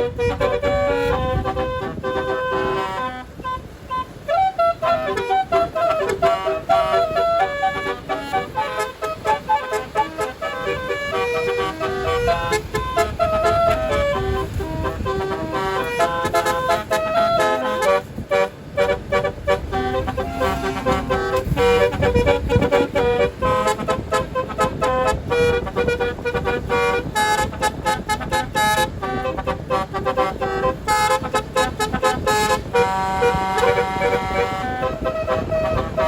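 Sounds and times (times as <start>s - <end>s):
musical air horn melody: 0.0s - 36.0s.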